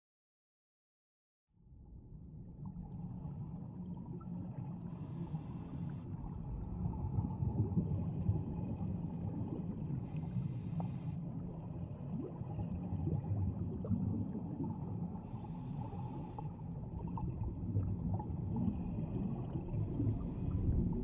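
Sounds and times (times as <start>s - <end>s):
underwater bubbling from regulator: 2.5s - 21.0s.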